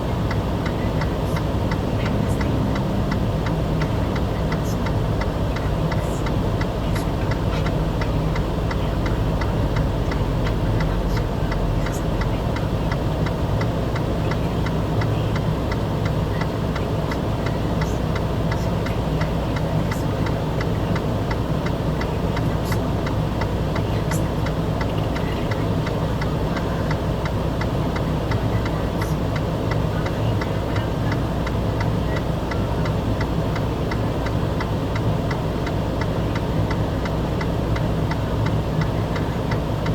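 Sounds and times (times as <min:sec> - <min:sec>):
engine ticking clatter: 0:00.0 - 0:39.9.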